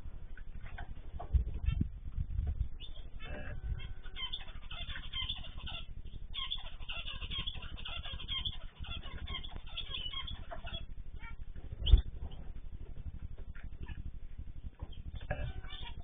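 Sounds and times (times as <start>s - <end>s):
small birds chirping: 0.3s - 16.0s.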